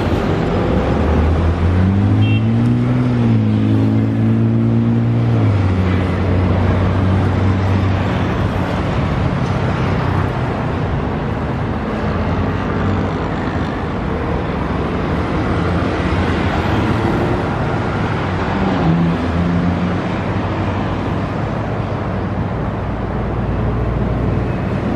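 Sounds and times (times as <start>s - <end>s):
passing cars: 0.0s - 24.9s.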